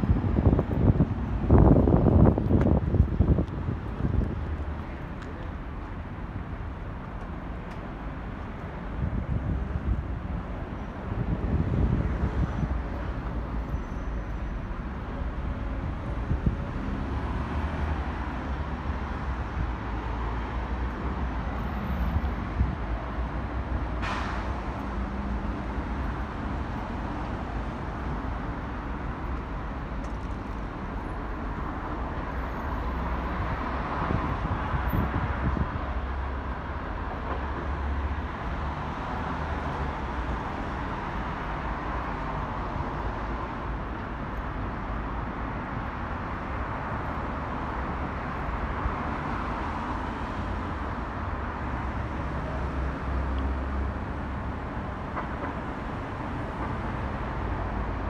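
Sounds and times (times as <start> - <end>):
distant traffic hum: 0.0 - 58.0.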